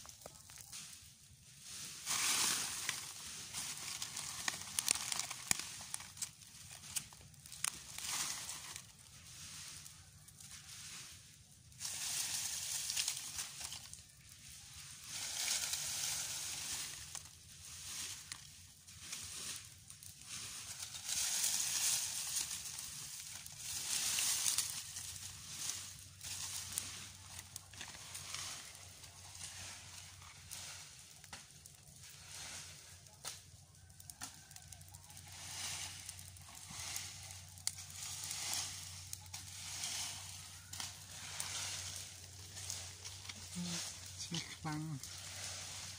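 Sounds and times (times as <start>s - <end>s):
leaves and grass fire crackling: 0.0s - 45.9s.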